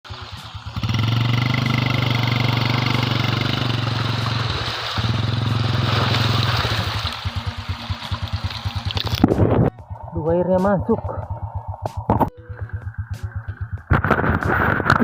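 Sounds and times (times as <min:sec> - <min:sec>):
motorcycle engine revving: 0:00.1 - 0:15.0.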